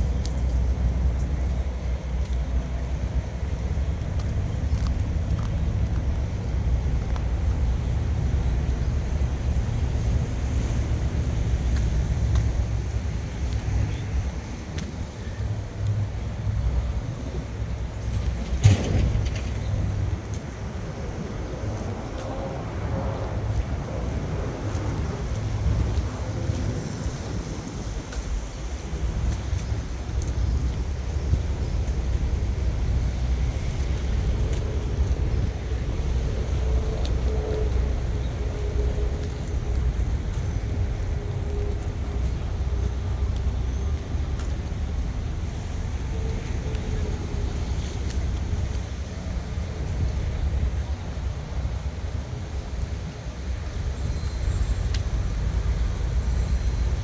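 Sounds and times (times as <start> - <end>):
vehicle rumble: 0.0 - 57.0.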